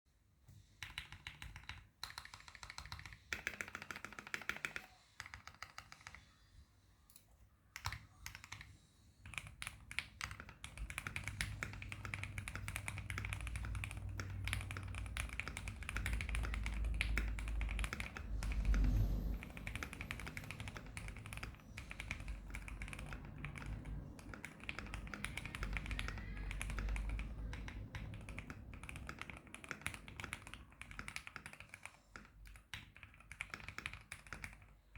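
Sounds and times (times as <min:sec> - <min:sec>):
typing on mechanical keyboard: 0:00.8 - 0:06.4, 0:07.1 - 0:34.9.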